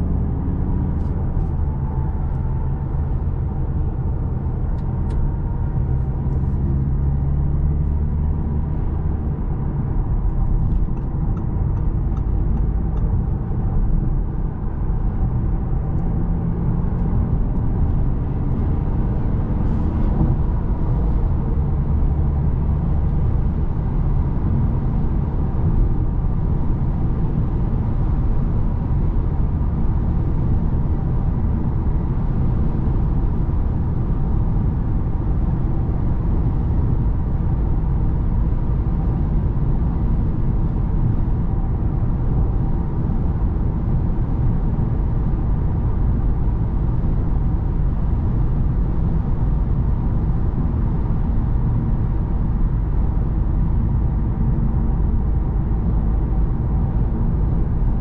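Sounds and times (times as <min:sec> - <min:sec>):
car engine noise: 0:00.0 - 0:58.0.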